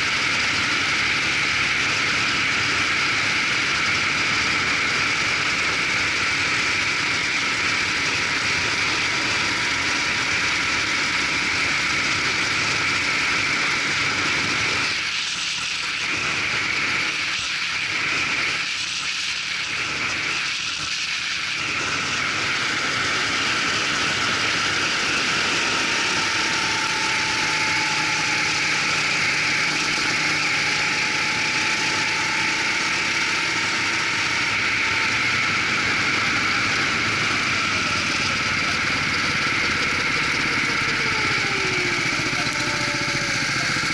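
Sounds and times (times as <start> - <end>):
go-kart engine running: 0.0 - 43.9.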